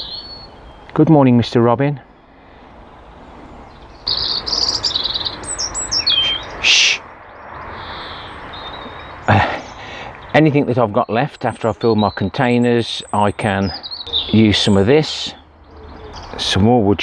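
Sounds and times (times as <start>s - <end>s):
robin singing: 0.0s - 17.0s.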